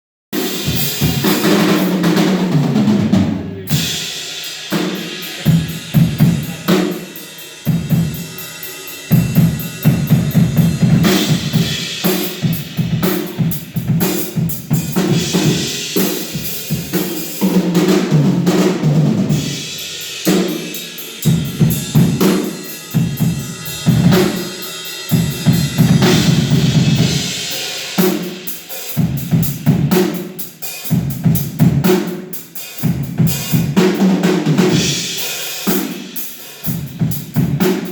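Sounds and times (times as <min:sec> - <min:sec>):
drum kit playing: 0:00.3 - 0:37.9.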